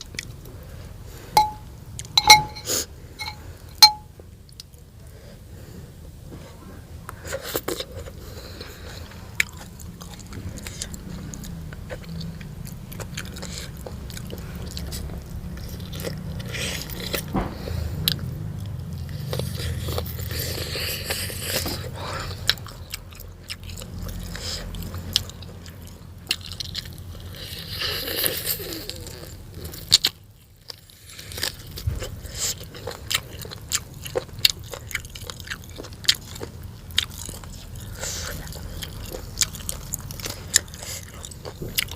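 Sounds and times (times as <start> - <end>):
person chewing crunchy food: 7.3 - 41.9.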